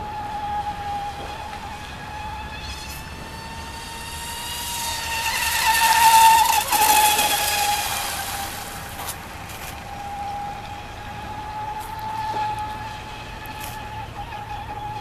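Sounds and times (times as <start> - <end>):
rc boat motor whining: 0.0 - 15.0.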